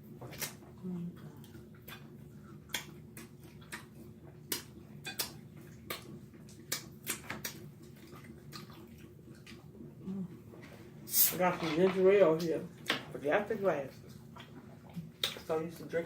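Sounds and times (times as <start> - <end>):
food chewing clicks and crunches: 0.0 - 10.8, 11.7 - 16.0
faint steady hum: 0.0 - 16.0.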